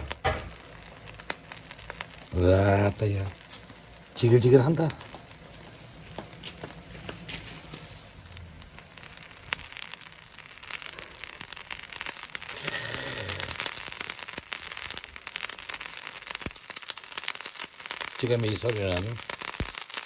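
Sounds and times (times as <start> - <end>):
fish sizzling on a grill: 0.0 - 20.0
wood fire crackling: 0.0 - 20.0.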